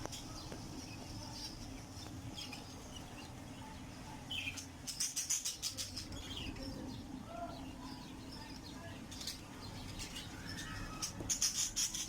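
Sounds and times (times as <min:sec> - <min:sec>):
bird chicks chirping: 0:00.0 - 0:12.0.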